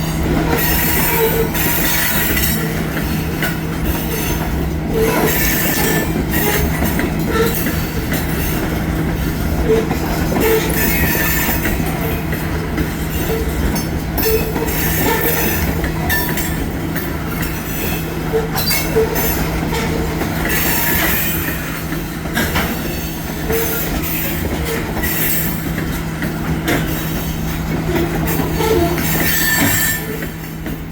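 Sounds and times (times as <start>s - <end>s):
train wheels clicking over rails: 0.0s - 30.9s
wheel squeals against rail: 0.1s - 30.8s.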